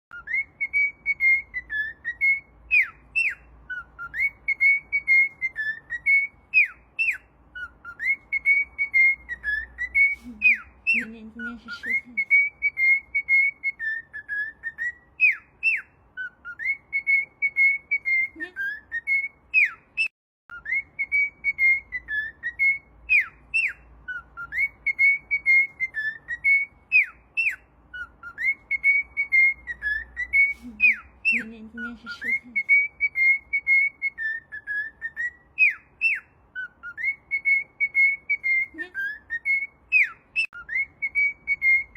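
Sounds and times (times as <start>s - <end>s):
parrot whistling a tune: 0.1s - 41.9s.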